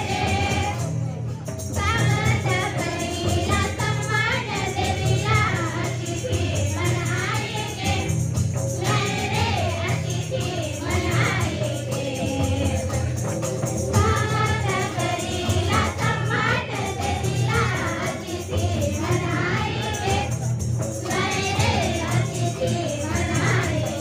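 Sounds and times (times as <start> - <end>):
girls singing in chorus: 0.0 - 0.9, 1.8 - 13.3, 13.9 - 20.4, 21.0 - 24.0.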